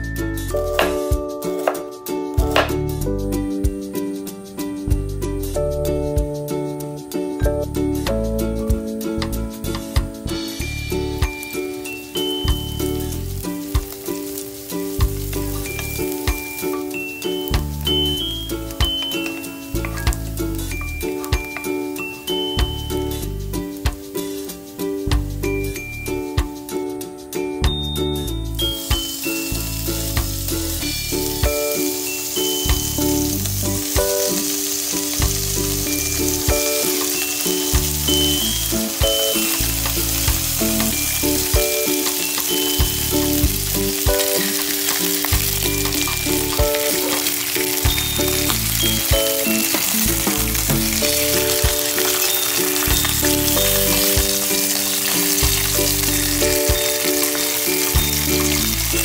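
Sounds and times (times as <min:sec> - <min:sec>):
pork sizzling in hot oil: 0:00.0 - 0:06.1, 0:07.9 - 0:59.0
light background music: 0:00.0 - 0:59.0.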